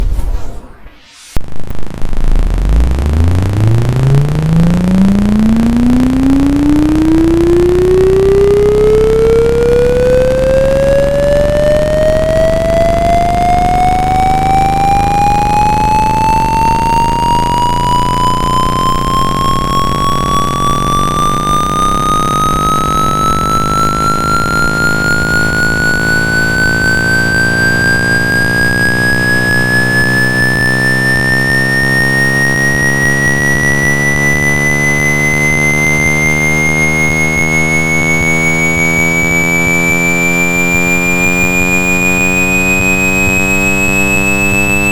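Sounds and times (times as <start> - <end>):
steady low drone: 0.0 - 44.9
tone sweeping upward in pitch: 0.0 - 44.9.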